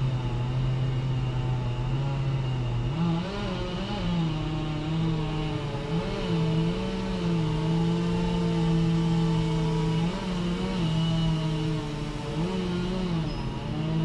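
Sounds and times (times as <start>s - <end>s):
engine running at high revs: 0.0s - 14.0s.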